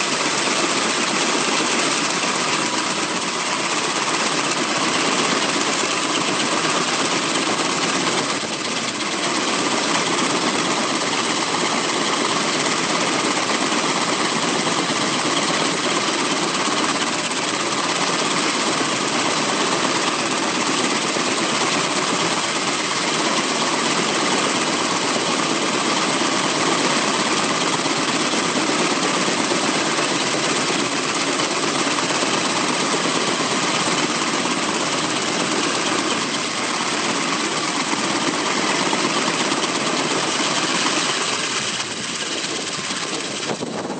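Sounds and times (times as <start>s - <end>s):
helicopter running on ground: 0.0s - 43.9s.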